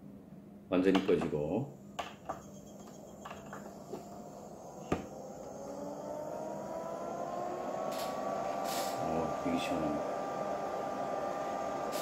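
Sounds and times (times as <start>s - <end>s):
fan motor whine: 1.8s - 12.0s.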